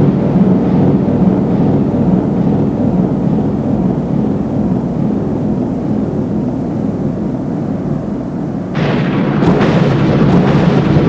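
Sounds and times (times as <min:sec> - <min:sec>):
deep rumble: 0:00.0 - 0:11.0.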